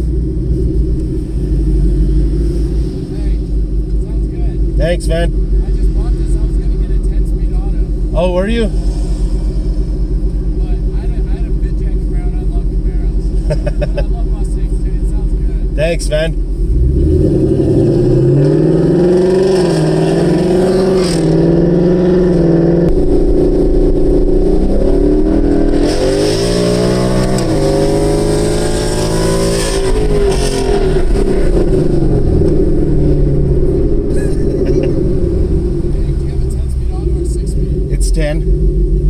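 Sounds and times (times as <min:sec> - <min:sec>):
car engine exhaust revving: 0:00.0 - 0:39.0.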